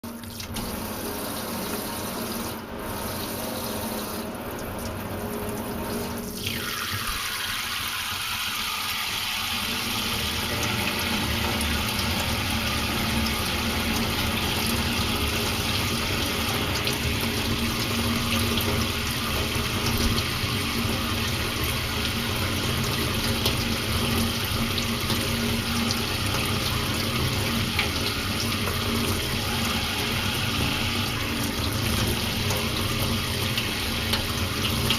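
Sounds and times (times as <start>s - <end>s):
steady rush like running water: 0.1s - 34.9s.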